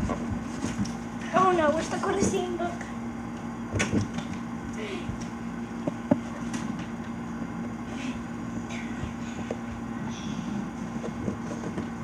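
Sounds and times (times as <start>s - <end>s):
constant background noise: 0.0s - 12.0s
steady appliance hum: 0.0s - 12.0s.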